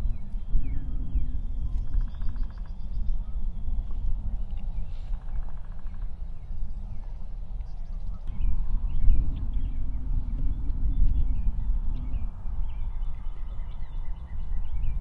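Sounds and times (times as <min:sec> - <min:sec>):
songbirds calling: 0:00.0 - 0:15.0
wind rumbling on microphone: 0:00.0 - 0:15.0.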